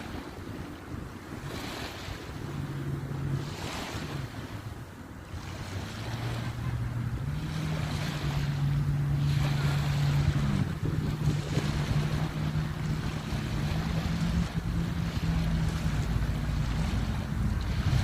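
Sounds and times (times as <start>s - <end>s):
low engine hum: 0.0s - 18.0s
surf: 0.0s - 18.0s
wind on microphone: 0.0s - 18.0s.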